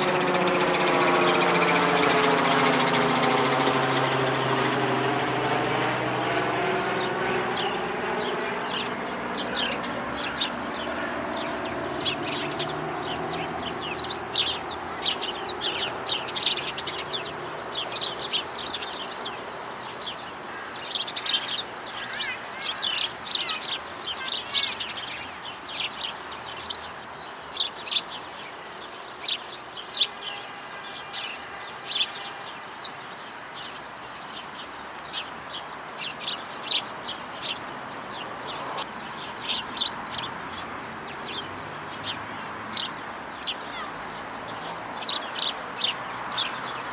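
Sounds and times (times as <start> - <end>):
sparrows chirping: 0.0 - 46.9.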